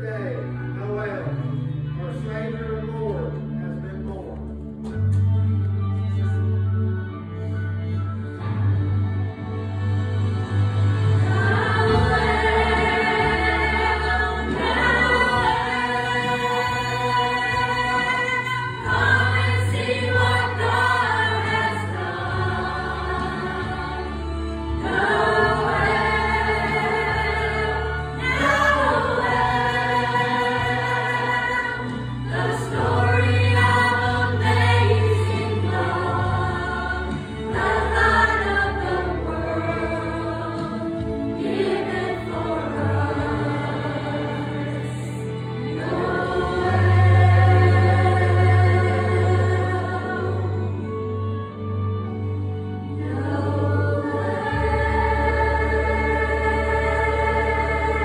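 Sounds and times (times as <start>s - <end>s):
choir singing: 10.5s - 58.0s.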